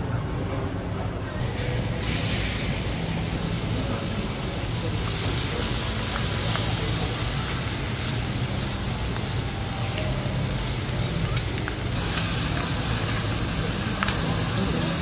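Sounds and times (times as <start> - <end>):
beef sizzling on a griddle: 1.4 - 15.0.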